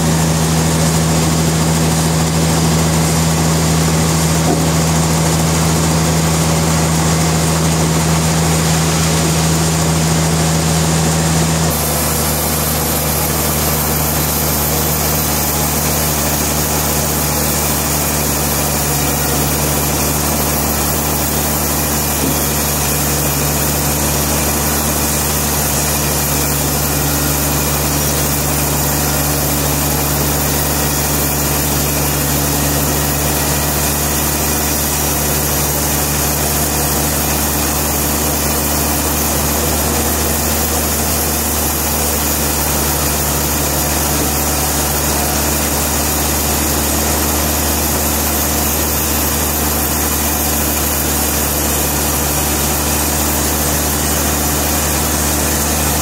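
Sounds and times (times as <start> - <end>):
sawmill engine droning: 0.0 - 56.0.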